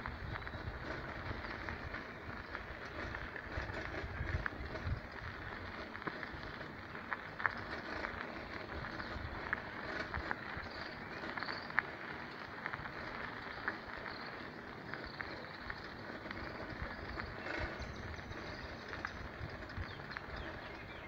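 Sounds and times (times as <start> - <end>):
footsteps crunching on dirt path: 0.0 - 21.0
wind rumbling on microphone: 0.0 - 21.0.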